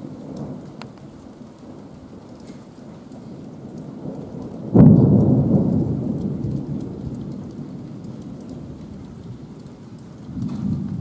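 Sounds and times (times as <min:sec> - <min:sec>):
thunder clap and rumble: 0:00.0 - 0:11.0.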